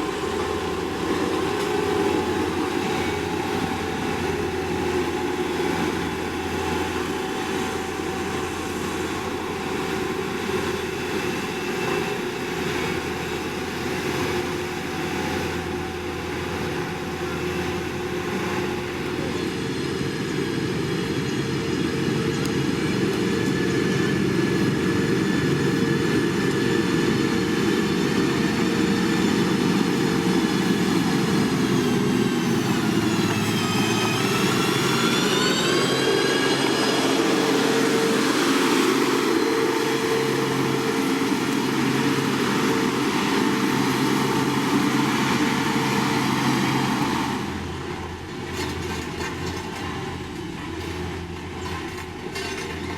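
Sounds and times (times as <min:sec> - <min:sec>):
heavy machinery diesel engine: 0:00.0 - 0:52.9.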